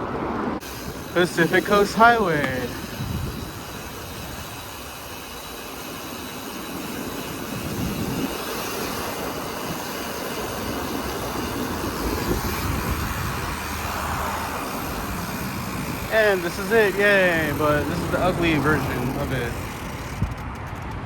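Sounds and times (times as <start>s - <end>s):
highway traffic roar: 0.0s - 21.0s.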